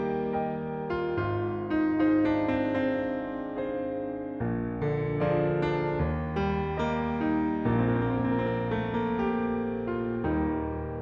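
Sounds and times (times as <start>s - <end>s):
calm keyboard music: 0.0s - 11.0s.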